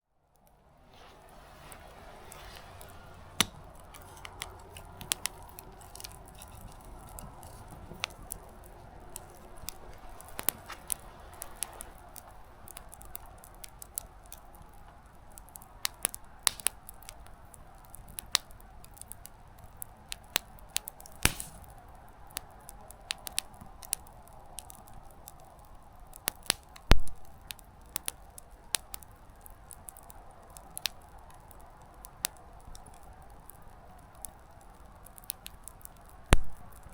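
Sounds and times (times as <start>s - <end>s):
campfire crackling and popping: 0.3s - 36.9s.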